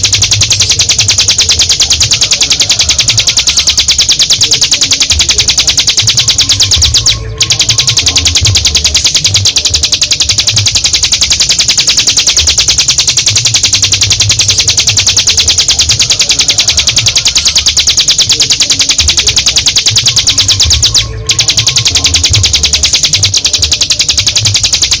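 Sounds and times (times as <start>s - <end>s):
bird trilling rattle: 0.0s - 25.0s.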